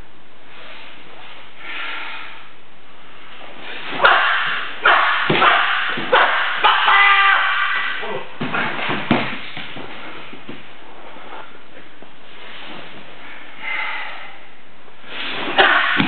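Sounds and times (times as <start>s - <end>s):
room hiss: 0.0s - 16.0s.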